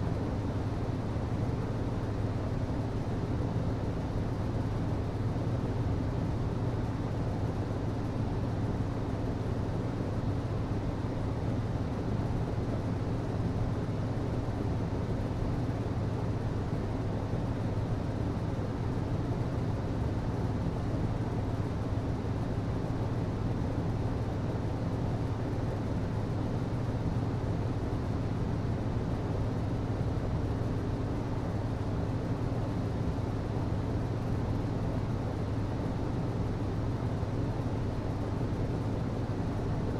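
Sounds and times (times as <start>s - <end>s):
ventilation system hum: 0.0s - 39.9s.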